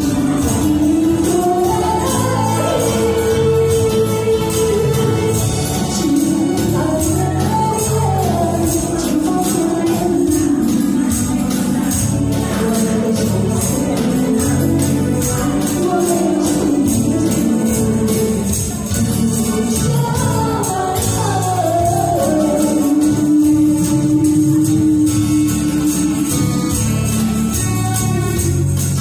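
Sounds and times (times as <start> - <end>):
woman singing pop song: 0.0 - 27.1
tambourine and shakers jingling: 0.0 - 29.0.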